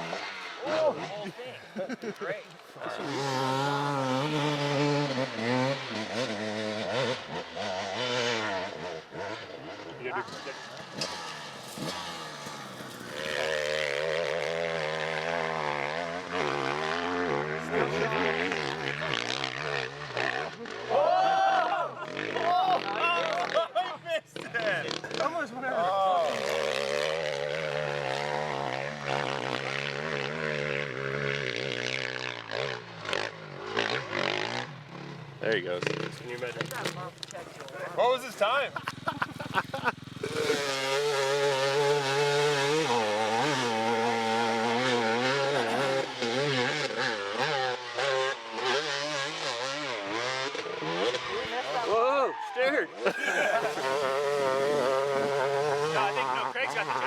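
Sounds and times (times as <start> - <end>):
motorcycle engine revving: 0.0 - 21.0, 21.8 - 23.8, 24.4 - 57.0.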